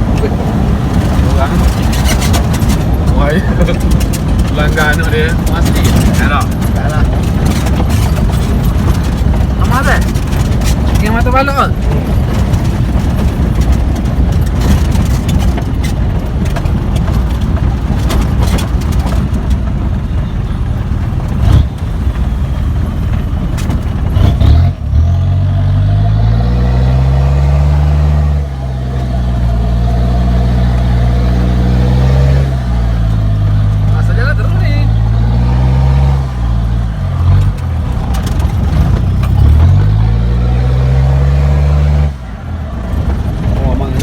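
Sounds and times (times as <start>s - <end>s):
body and wheels clattering: 0.0s - 44.0s
engine droning: 0.0s - 44.0s
vehicle rumbling off-road: 0.0s - 44.0s.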